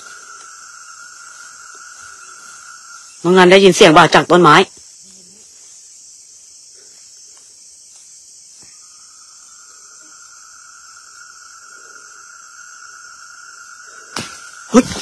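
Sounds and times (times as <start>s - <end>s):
night insects chirring: 0.0s - 15.0s.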